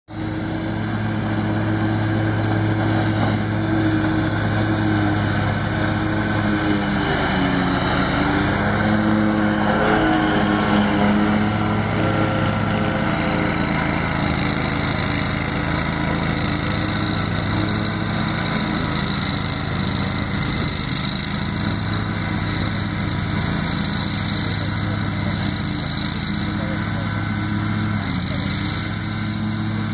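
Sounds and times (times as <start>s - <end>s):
riding mower engine drone: 0.1s - 29.9s.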